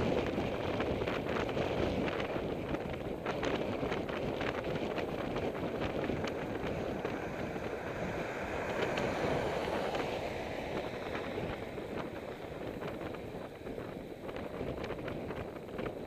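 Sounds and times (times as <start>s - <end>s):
wind rush on microphone: 0.0s - 16.0s.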